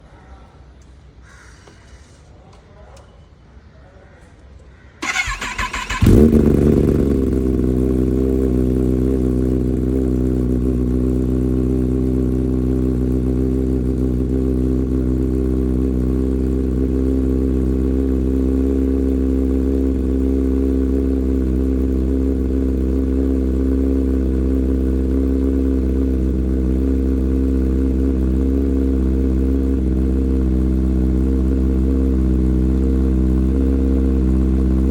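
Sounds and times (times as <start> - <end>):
motorcycle engine idling: 5.0 - 34.9.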